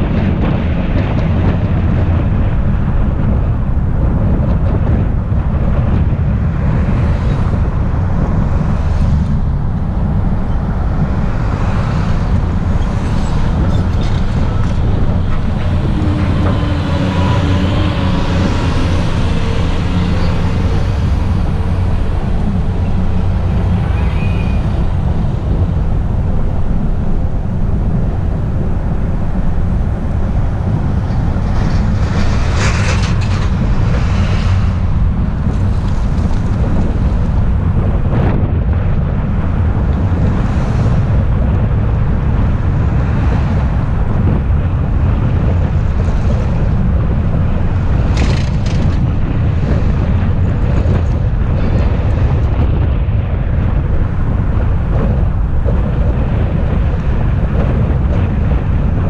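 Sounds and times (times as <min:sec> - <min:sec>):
car engine and tyre noise: 0:00.0 - 0:59.0
wind on microphone: 0:00.0 - 0:59.0.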